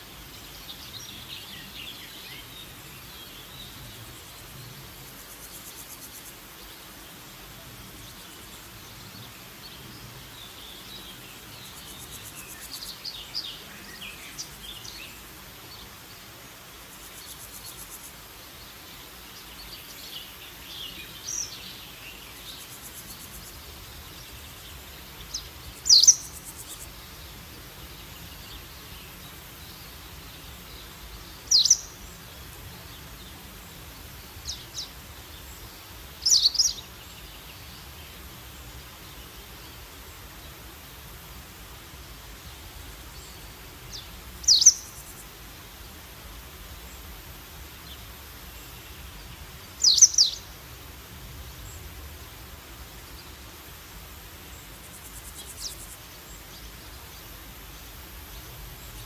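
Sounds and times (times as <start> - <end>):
background hiss: 0.0 - 59.0
birds twittering and chirping: 0.0 - 59.0.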